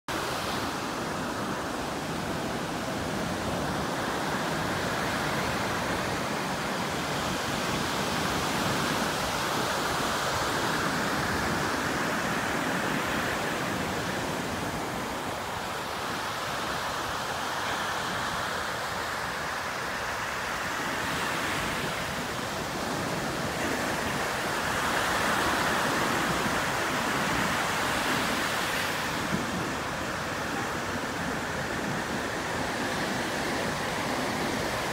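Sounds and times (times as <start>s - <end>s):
ocean surf breaking: 0.1s - 34.9s.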